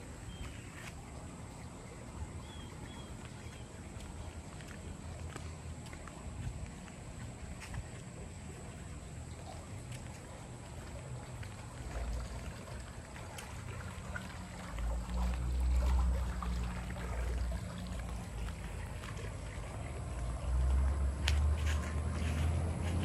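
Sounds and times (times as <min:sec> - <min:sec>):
faint outdoor hiss: 0:00.0 - 0:23.0.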